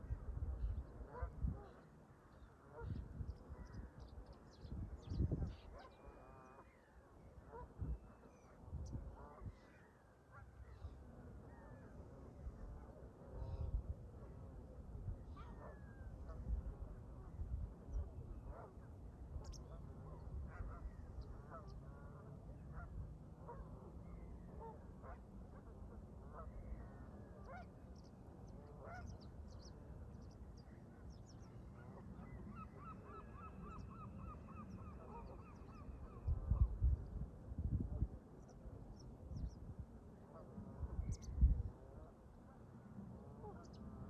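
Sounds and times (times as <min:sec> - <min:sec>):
low wind rumble on microphone: 0:00.0 - 0:09.7, 0:10.4 - 0:32.5, 0:33.4 - 0:42.4.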